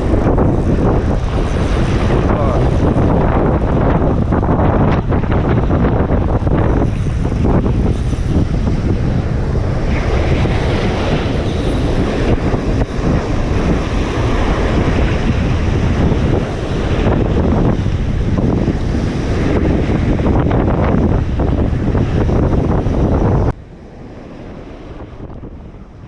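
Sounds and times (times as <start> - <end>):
strong wind buffeting microphone: 0.0 - 26.0
surf: 0.0 - 26.0.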